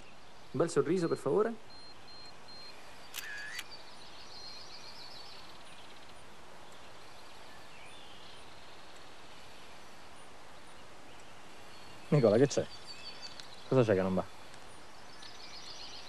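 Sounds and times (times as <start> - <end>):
background hiss: 0.0 - 16.0
bird chirping: 0.0 - 16.0.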